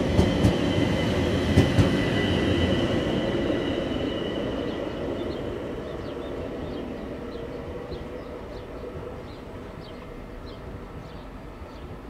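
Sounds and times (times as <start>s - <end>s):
high whine from train: 0.0s - 12.0s
train rumbling past: 0.0s - 12.0s.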